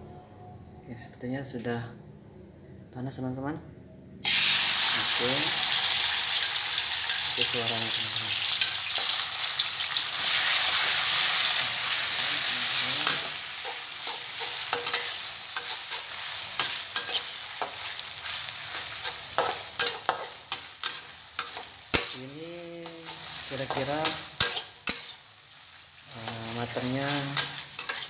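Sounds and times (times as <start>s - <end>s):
chillies sizzling in hot oil: 4.2s - 28.0s
metal spatula scraping wok: 4.2s - 28.0s.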